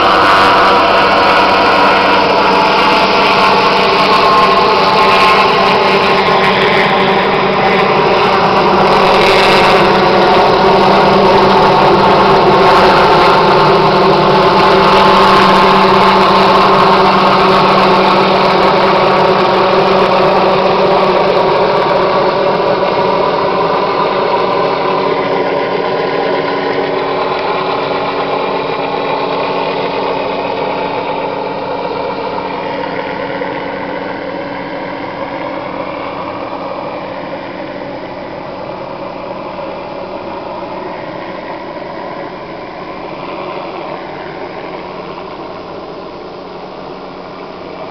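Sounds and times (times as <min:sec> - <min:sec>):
helicopter turbine and rotor: 0:00.0 - 0:47.9.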